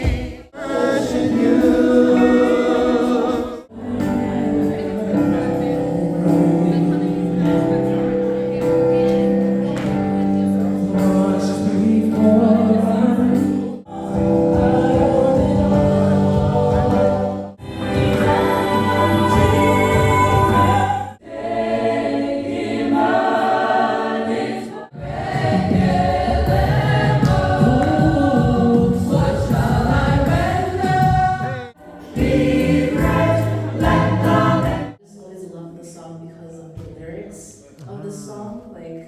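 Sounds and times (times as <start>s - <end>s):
gospel choir singing: 0.0s - 35.0s.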